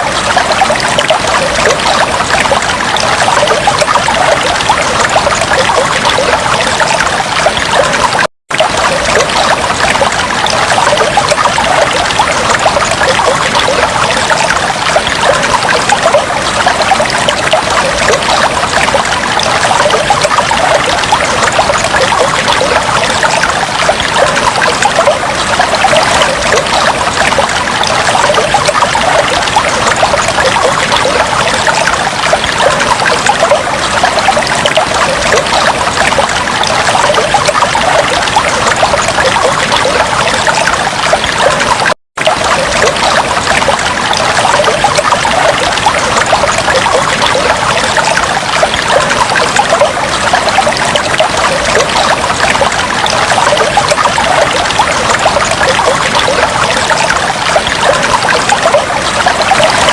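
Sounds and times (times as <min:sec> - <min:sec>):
aquarium water trickling and bubbling: 0:00.0 - 0:59.9.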